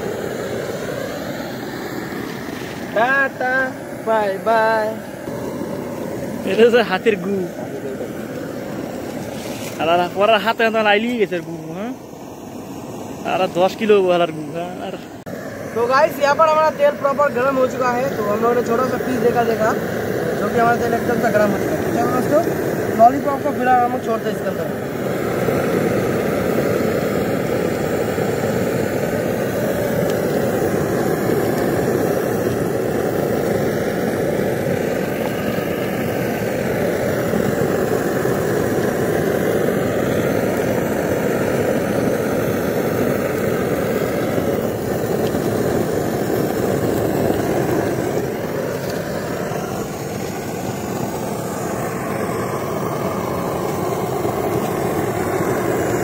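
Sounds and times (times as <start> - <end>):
pressure stove burner rushing: 0.0 - 56.0.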